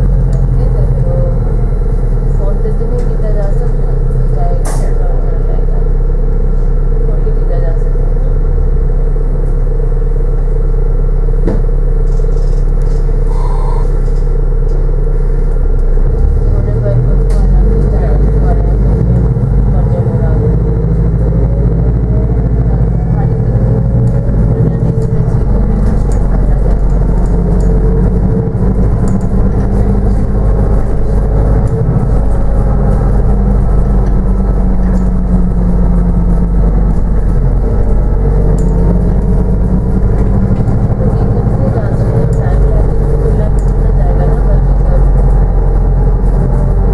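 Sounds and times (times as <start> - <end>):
bus engine rumble: 0.0 - 46.9
road noise: 0.0 - 46.9.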